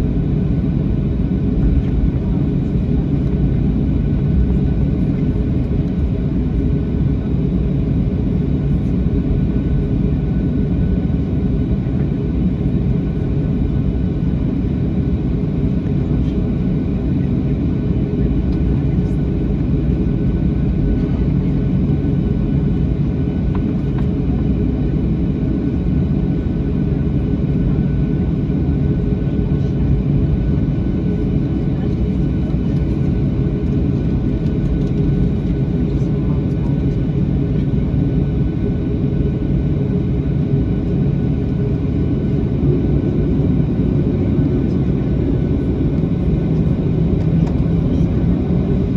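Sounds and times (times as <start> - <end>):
faint jet engine whine: 0.0 - 48.9
jet engine rumble: 0.0 - 48.9.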